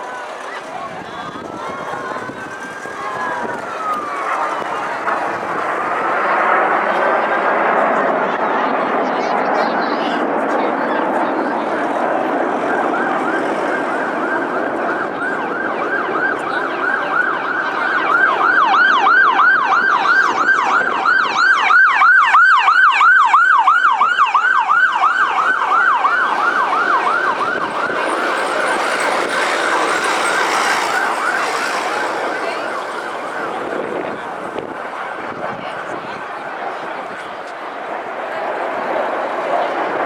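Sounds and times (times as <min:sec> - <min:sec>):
emergency siren yelping: 0:00.0 - 0:07.8, 0:11.3 - 0:37.8.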